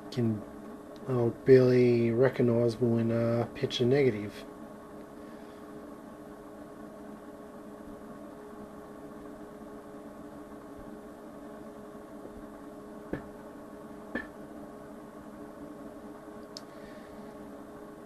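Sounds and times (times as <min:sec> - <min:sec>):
electrical equipment hum and hiss: 0:00.0 - 0:18.0.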